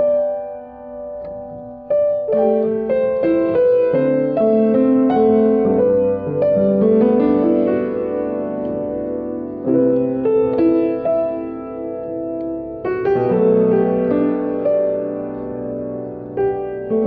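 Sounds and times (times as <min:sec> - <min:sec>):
solo piano piece: 0:00.0 - 0:17.0.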